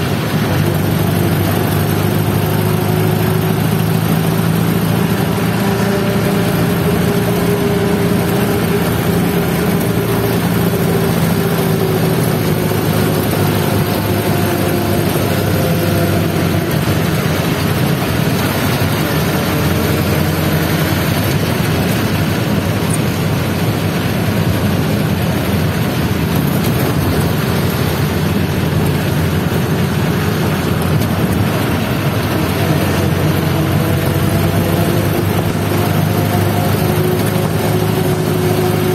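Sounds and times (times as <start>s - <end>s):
road and wind noise: 0.0s - 38.9s
vehicle engine running: 0.0s - 38.9s.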